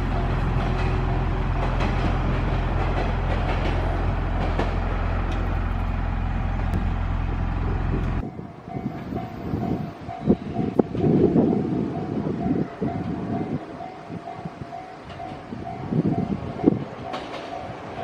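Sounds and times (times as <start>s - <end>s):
electric train humming: 0.0s - 18.0s.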